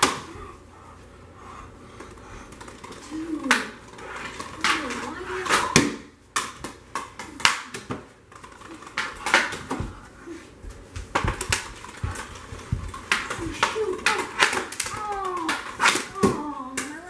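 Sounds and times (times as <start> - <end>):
hockey sticks clacking on floor: 1.9 - 17.0.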